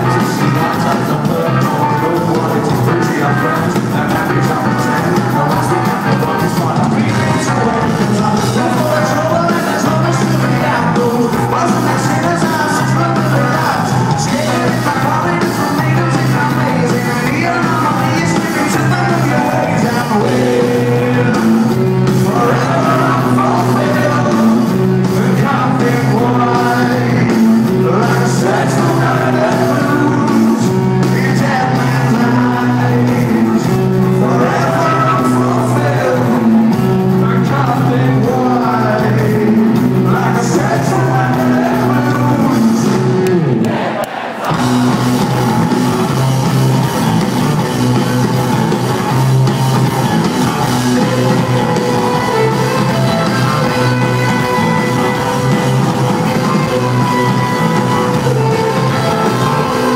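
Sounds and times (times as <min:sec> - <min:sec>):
lead singer singing: 0:00.0 - 0:46.2, 0:49.8 - 0:59.9
drums: 0:00.0 - 0:59.9
electric guitars: 0:00.0 - 0:59.9.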